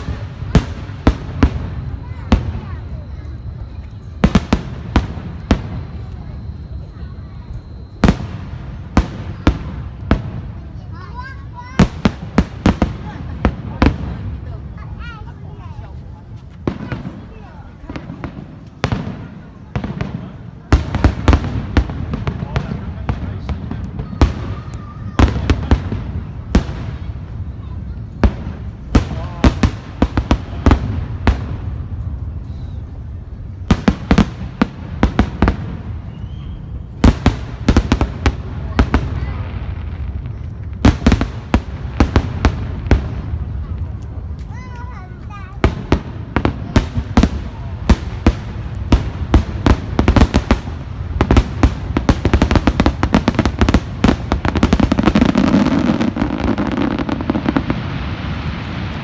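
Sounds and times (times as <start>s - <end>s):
fireworks bursting with bangs: 0.0s - 59.0s.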